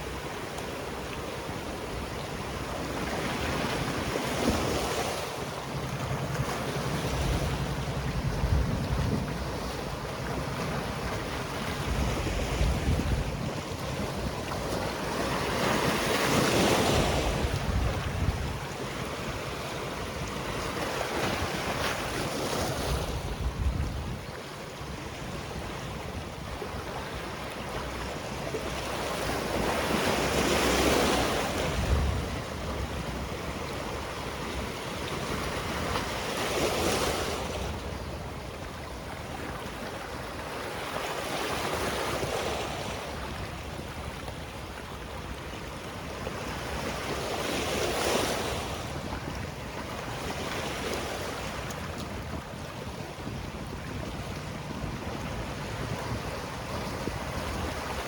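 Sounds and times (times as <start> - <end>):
waves breaking on rocky shore: 0.0 - 58.0
wind rumble on microphone: 0.0 - 58.0.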